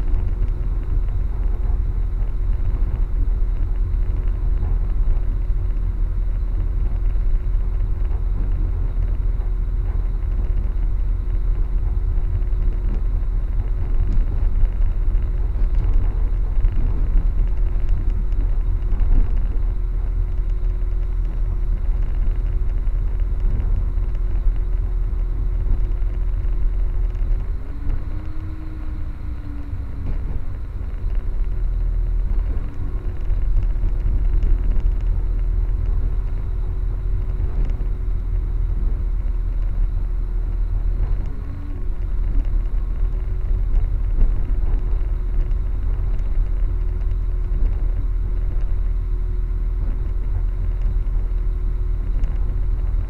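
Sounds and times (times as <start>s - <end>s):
constant hum: 0.0s - 53.0s
train rumble: 0.0s - 53.0s.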